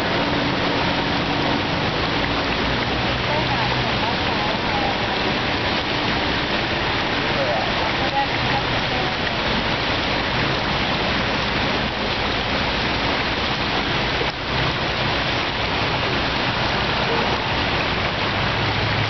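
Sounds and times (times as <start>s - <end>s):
floodwater rushing and splashing: 0.0s - 19.0s.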